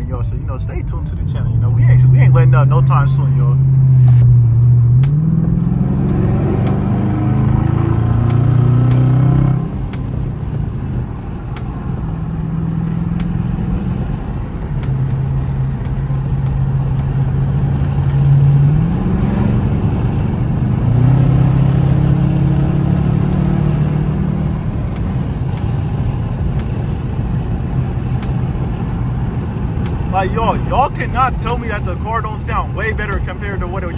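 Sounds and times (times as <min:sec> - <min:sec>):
deep exhaust drone: 0:00.0 - 0:33.9
road and wind noise: 0:00.0 - 0:33.9.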